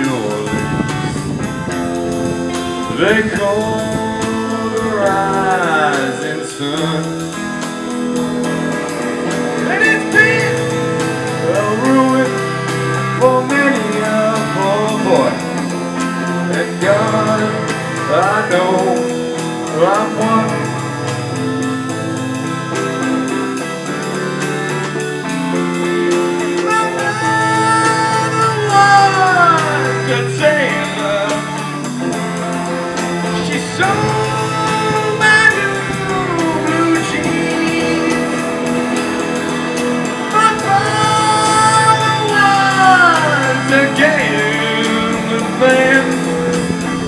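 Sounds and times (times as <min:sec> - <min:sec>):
drum kit: 0:00.0 - 0:47.0
electric and acoustic guitars: 0:00.0 - 0:47.0
harmonica: 0:00.0 - 0:47.0
man singing long sliding notes: 0:00.0 - 0:47.0.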